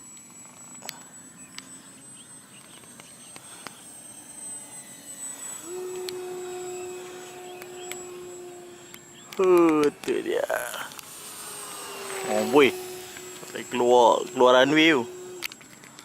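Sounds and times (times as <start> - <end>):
high-pitched jet fan whine: 0.0 - 16.0
low steady hum: 0.0 - 16.0.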